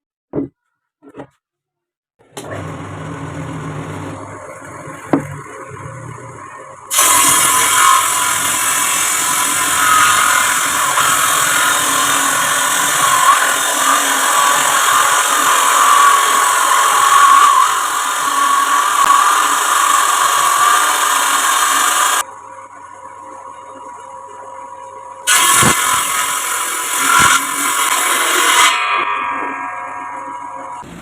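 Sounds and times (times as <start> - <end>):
wood lathe tool scraping: 2.4 - 22.3, 25.3 - 31.0
wavering squeal: 5.4 - 31.0.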